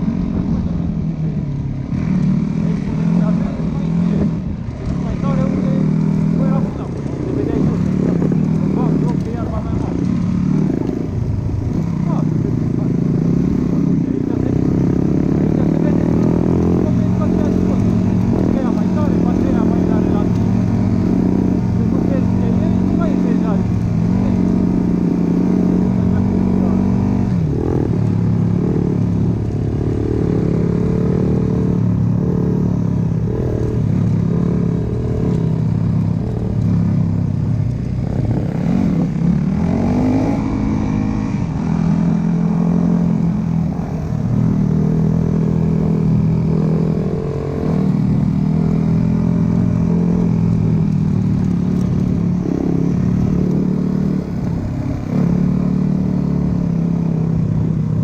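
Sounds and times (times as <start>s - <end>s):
dirt bike engine revving: 1.9s - 58.0s.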